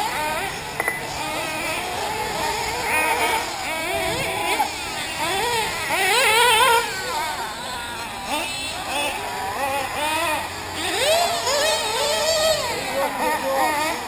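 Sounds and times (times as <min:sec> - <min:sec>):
rc car engines whining: 0:00.0 - 0:14.0.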